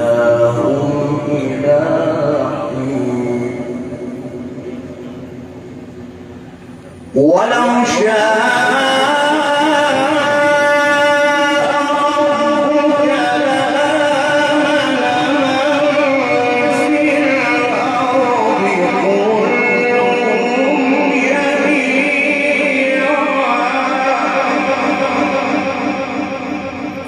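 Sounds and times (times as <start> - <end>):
man reciting melodically: 0.0 - 5.2, 7.1 - 27.0.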